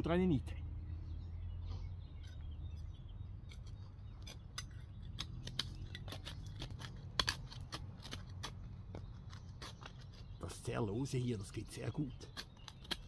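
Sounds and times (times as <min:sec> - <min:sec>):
trowel scraping stony soil: 0:02.2 - 0:13.0.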